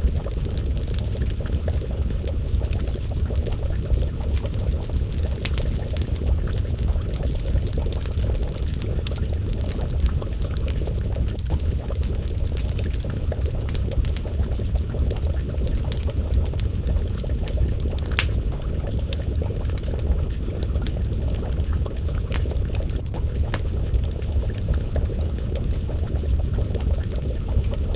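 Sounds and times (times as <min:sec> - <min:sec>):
stew bubbling in a pot: 0:00.0 - 0:27.9
wood fire crackling: 0:00.0 - 0:27.9.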